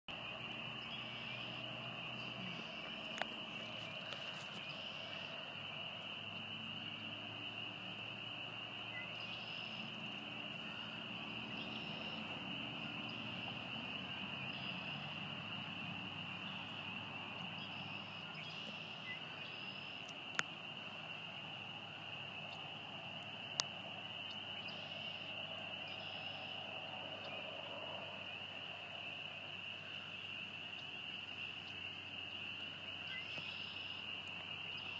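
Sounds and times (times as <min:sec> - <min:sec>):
frogs trilling chorus: 0:00.1 - 0:34.9.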